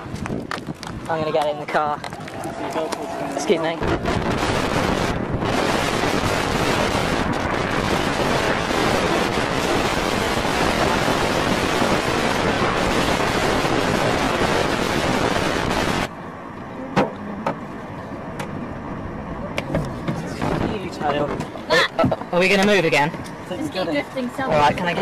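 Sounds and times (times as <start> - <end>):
wind roaring on microphone: 0.0 - 16.1, 18.1 - 23.4.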